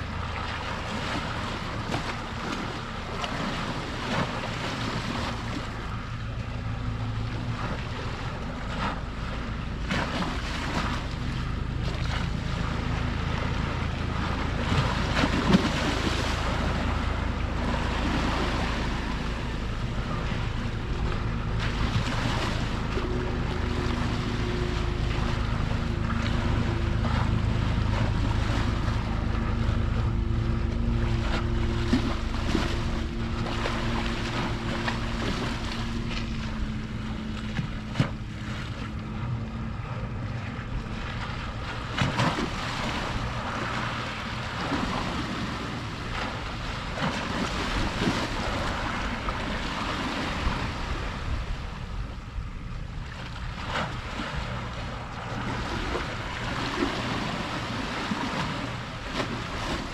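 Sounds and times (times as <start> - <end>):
boat engine running: 0.0 - 59.9
sea waves washing on shore: 0.0 - 59.9
wind: 0.0 - 59.9.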